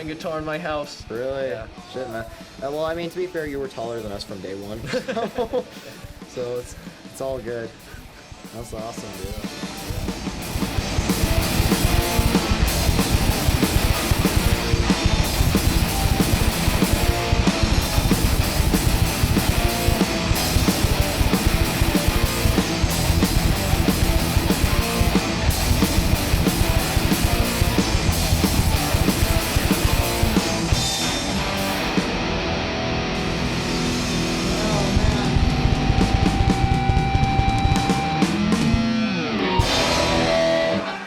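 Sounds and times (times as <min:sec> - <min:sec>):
heavy rock band music: 0:00.0 - 0:41.0.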